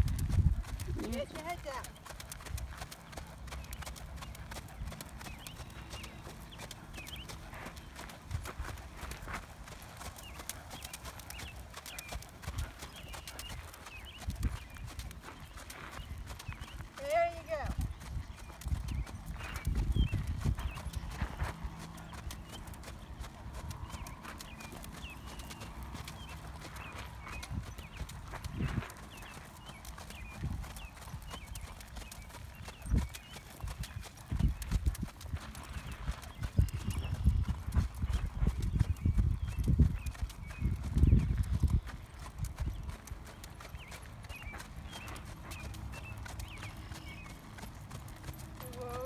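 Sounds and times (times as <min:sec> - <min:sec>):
horse hooves trotting on gravel: 0:00.0 - 0:49.0.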